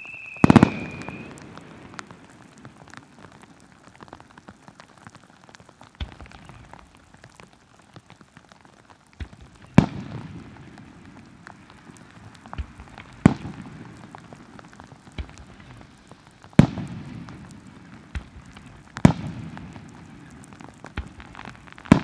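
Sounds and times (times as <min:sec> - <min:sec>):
fireworks bangs with echo: 0:00.0 - 0:04.2, 0:05.9 - 0:07.2, 0:09.2 - 0:22.0
heavy rain: 0:00.0 - 0:22.0.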